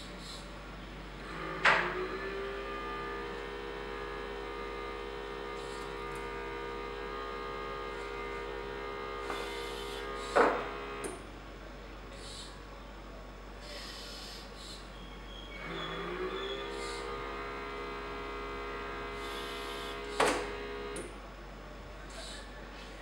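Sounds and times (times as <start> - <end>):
small vacuum pump humming: 0.0 - 23.0.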